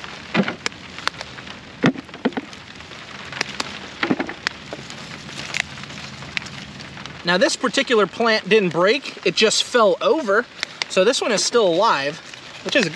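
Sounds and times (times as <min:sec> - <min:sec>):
steady rain: 0:00.0 - 0:12.9.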